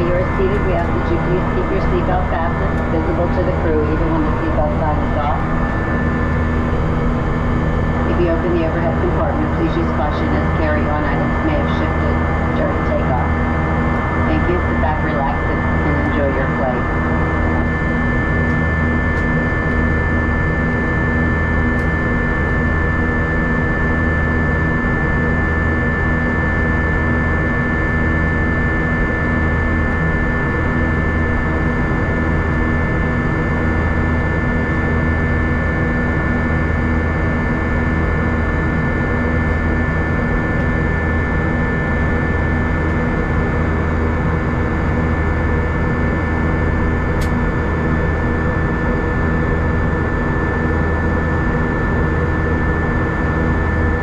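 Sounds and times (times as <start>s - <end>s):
airplane cabin jet engine rush: 0.0s - 54.0s
high-pitched whine: 0.0s - 54.0s.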